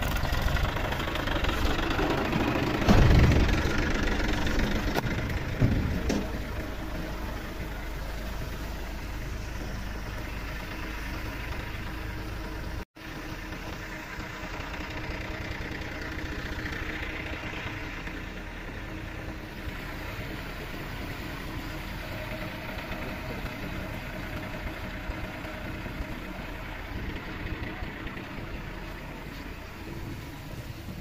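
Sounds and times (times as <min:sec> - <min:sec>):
tractor diesel engine idling: 0:00.0 - 0:31.0.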